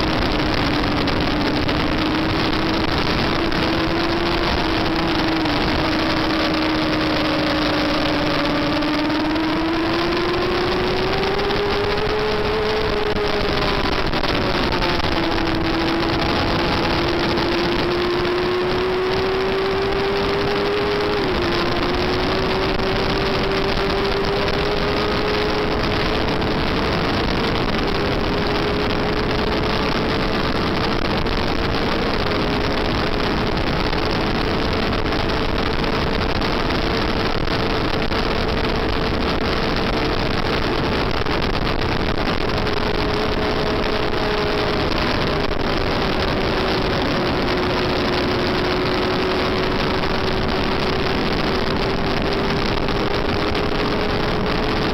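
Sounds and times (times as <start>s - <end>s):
motorcycle engine at high revs: 0.0s - 54.9s
wind rush on microphone: 0.0s - 54.9s.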